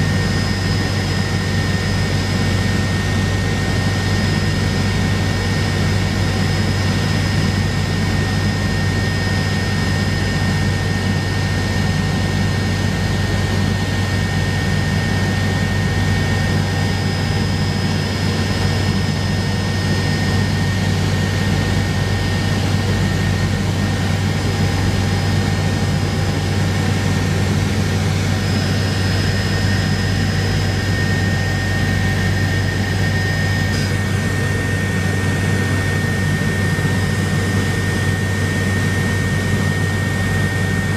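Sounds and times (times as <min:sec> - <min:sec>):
helicopter rotor and engine drone: 0:00.0 - 0:40.9
high turbine whine: 0:00.0 - 0:40.9.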